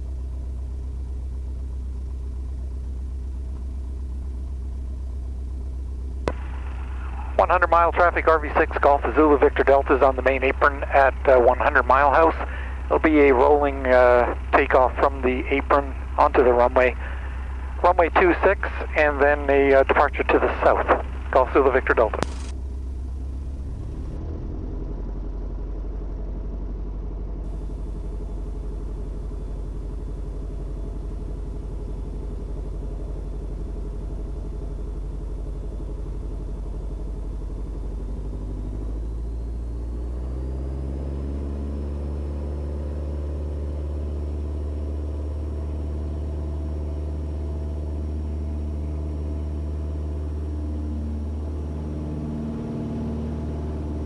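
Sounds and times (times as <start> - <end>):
aircraft piston engine droning: 0.0 - 54.0.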